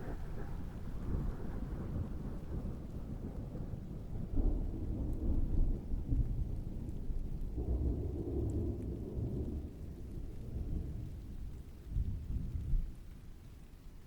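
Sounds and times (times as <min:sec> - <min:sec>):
distant thunder rumbling: 0:00.0 - 0:13.4
steady rain: 0:00.0 - 0:14.0.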